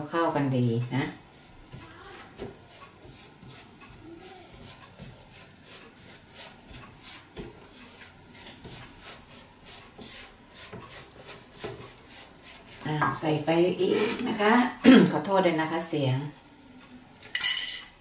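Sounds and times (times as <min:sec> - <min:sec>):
spatula scraping dough in metal bowl: 0:00.0 - 0:14.6.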